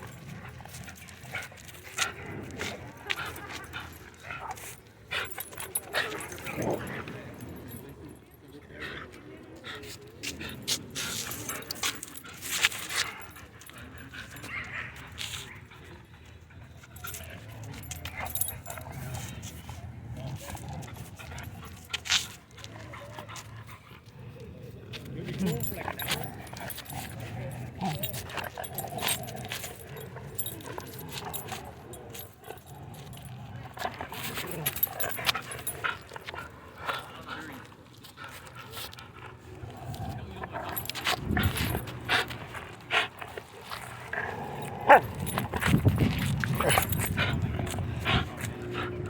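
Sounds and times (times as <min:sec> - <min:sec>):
dog tags jingling: 0:00.0 - 0:08.4, 0:09.8 - 0:15.5, 0:16.6 - 0:23.4, 0:24.2 - 0:37.0, 0:37.9 - 0:49.0.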